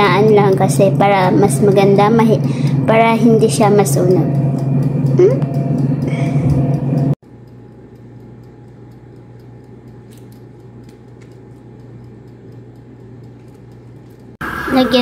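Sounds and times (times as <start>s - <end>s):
air fryer fan humming: 0.0s - 15.0s.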